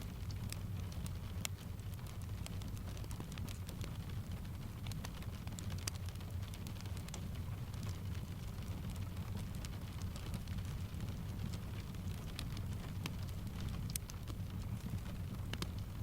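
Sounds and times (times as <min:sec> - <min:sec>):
fireplace crackling: 0:00.0 - 0:16.0
rain tapping on a window: 0:00.0 - 0:16.0.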